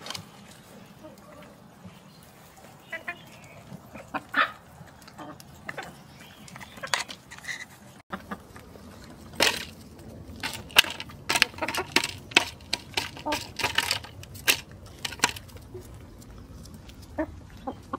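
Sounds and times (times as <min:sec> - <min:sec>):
hens pecking on foil tin: 0:00.0 - 0:17.9.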